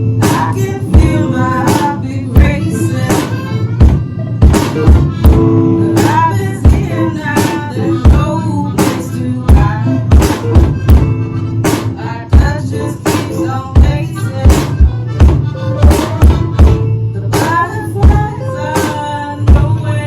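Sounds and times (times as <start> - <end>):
drum kit hard hits: 0.0 - 19.8
live rock band: 0.0 - 20.0.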